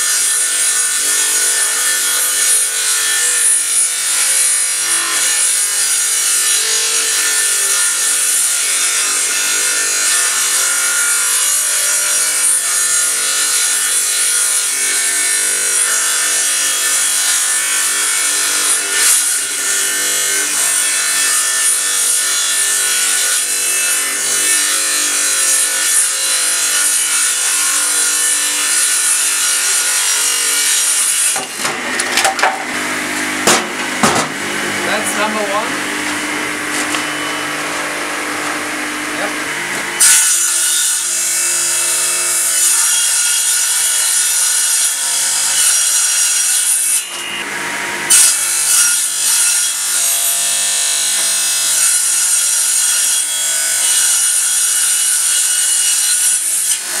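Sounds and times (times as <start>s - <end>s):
table saw cutting board: 0.0s - 57.0s.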